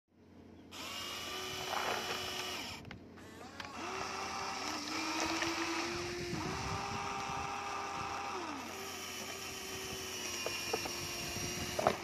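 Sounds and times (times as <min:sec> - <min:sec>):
small electric motors whining: 0:00.7 - 0:12.0.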